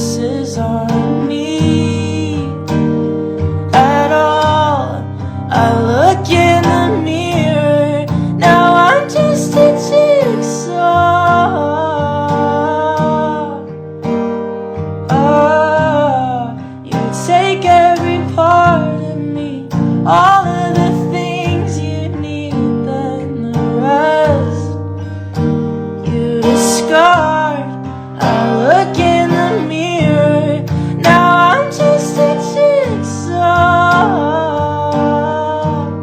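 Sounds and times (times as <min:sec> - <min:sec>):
person singing: 0:00.0 - 0:14.3, 0:15.0 - 0:25.0, 0:26.0 - 0:36.0
acoustic guitar: 0:00.0 - 0:36.0.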